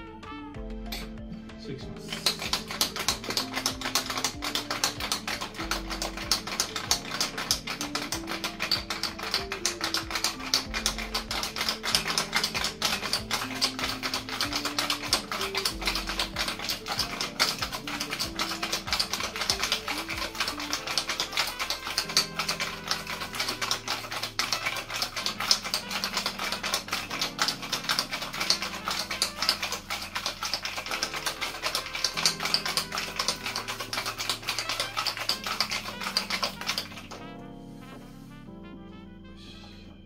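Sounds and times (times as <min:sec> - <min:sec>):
background music: 0:00.0 - 0:40.0
ice rattling in cocktail shaker: 0:02.0 - 0:37.3.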